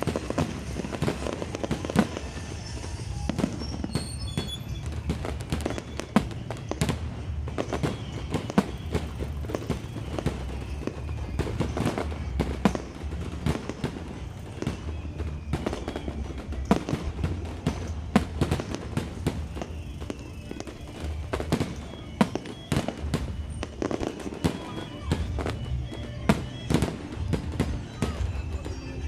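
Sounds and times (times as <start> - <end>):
fireworks bursting: 0.0 - 29.0
fireworks crackling: 0.0 - 29.0.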